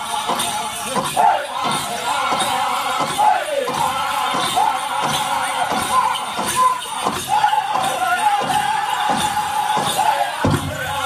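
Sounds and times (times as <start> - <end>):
big drum steady beat: 0.0 - 11.0
group singing in high voices: 0.0 - 11.0.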